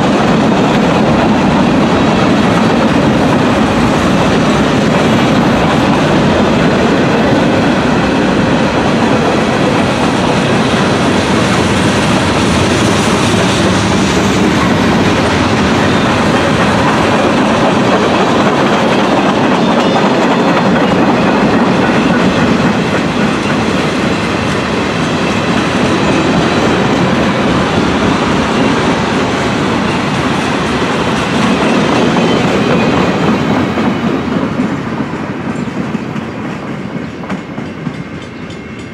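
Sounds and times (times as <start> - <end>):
train cars rolling on rails: 0.0 - 38.9.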